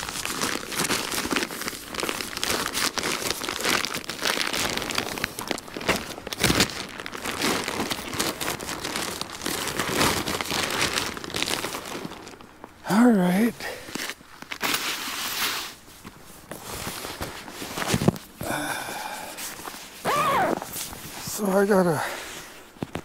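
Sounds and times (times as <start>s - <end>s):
crinkly sheet rustling: 0.0s - 23.0s.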